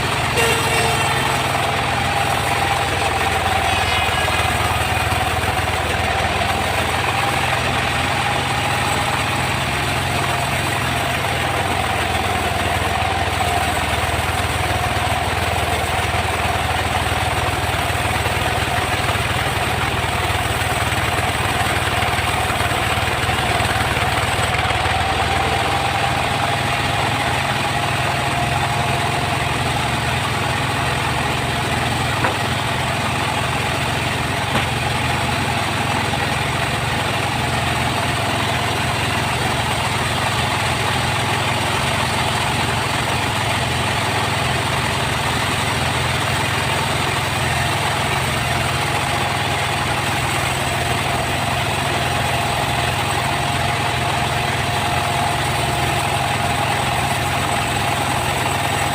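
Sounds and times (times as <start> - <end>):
engine hum: 0.0 - 58.9
sawmill saw running: 0.0 - 58.9.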